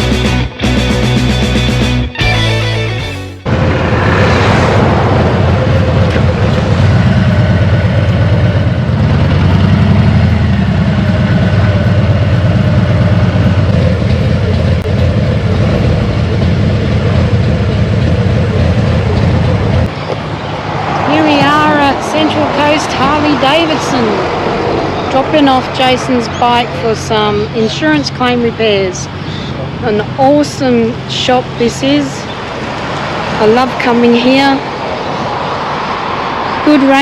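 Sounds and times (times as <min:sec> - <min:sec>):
motorcycle engine rumble: 0:00.0 - 0:37.0.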